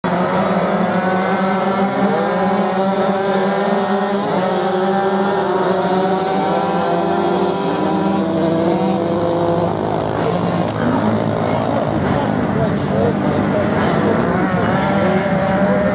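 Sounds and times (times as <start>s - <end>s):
dirt bike engines revving: 0.0s - 15.9s.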